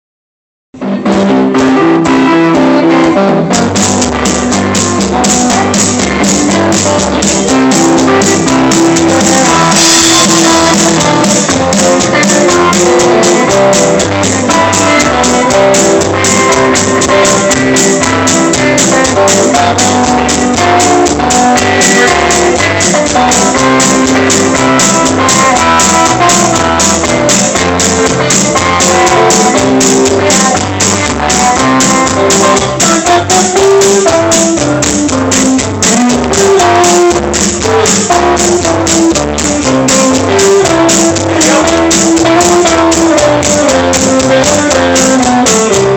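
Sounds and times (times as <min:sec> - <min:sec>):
electric guitar: 0:00.8 - 0:45.9
walking bass line: 0:00.8 - 0:45.9
drum beat: 0:01.1 - 0:45.9.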